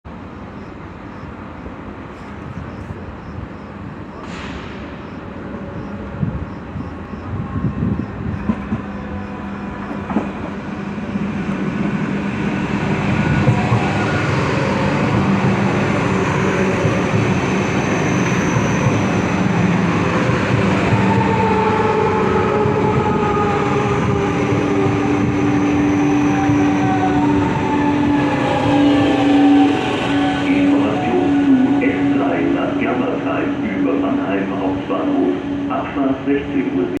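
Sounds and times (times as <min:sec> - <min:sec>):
electric train arriving: 0:00.1 - 0:37.0.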